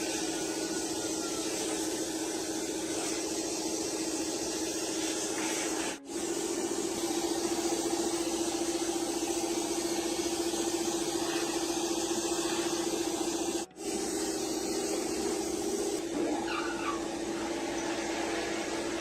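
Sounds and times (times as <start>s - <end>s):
electric machine humming: 0.0s - 19.0s.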